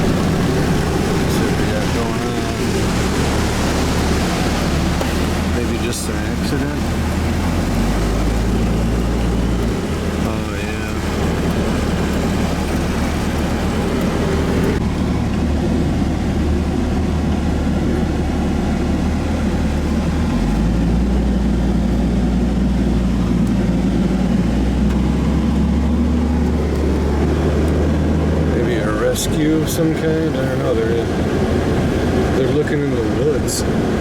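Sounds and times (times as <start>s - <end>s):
car engine hum: 0.0s - 34.0s
road and tyre noise: 0.0s - 34.0s.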